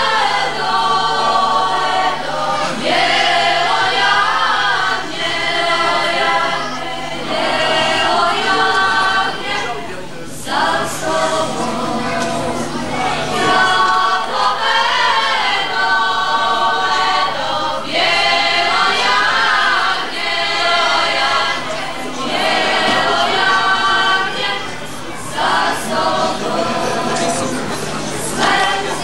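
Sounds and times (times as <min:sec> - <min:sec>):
women's choir singing: 0:00.0 - 0:29.0.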